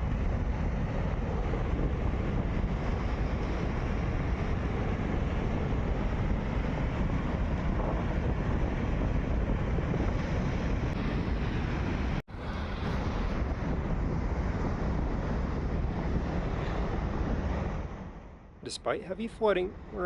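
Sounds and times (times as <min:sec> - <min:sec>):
wind rumbling on microphone: 0:00.0 - 0:18.5.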